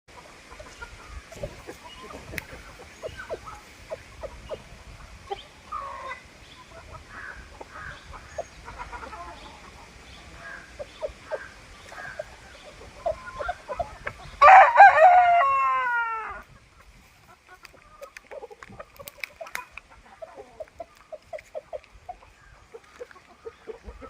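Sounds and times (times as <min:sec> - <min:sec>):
chickens clucking: 0:00.1 - 0:24.0.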